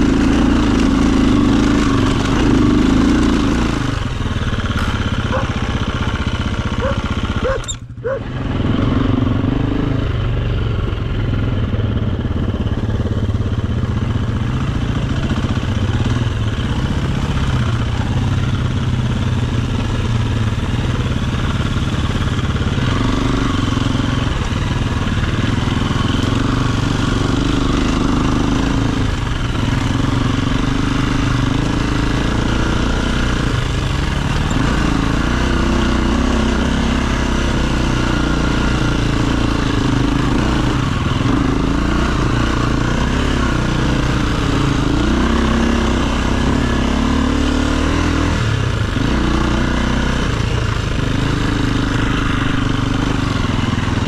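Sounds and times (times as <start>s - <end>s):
dirt bike engine at low revs: 0.0s - 54.0s.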